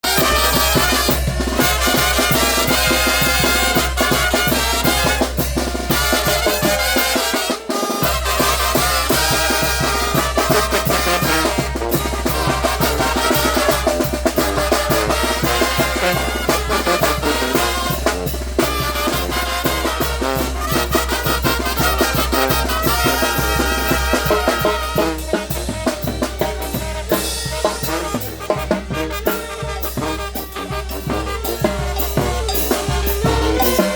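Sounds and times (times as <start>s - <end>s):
brass band playing: 0.0s - 33.9s.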